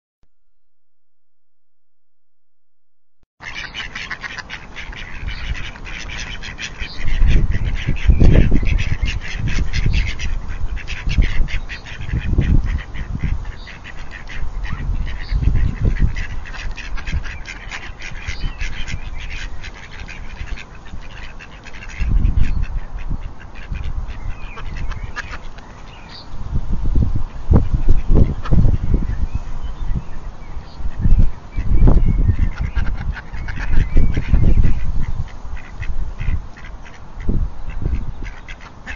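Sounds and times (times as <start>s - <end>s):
ducks quacking: 3.4s - 26.2s, 27.3s - 29.0s, 30.8s - 38.9s.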